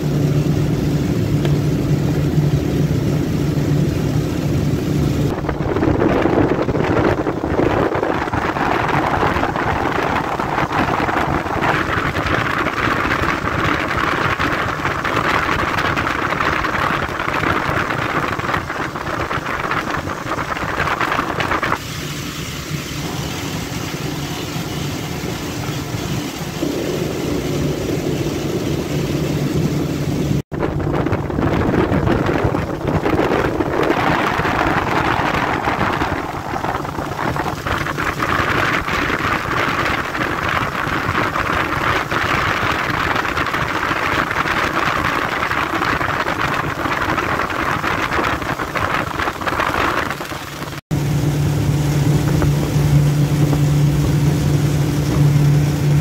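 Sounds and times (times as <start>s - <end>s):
motorboat engine running: 0.0s - 56.0s
rushing wind and water: 0.0s - 56.0s.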